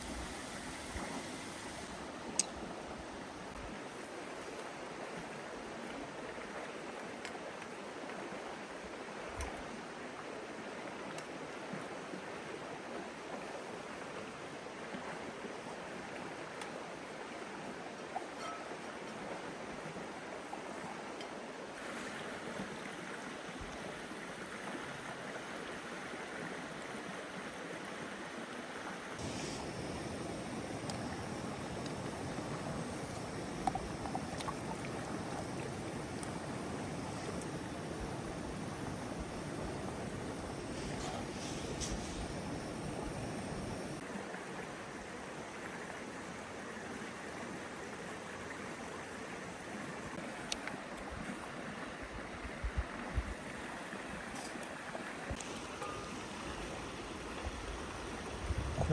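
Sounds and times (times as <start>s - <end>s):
river water rushing: 0.0s - 52.5s.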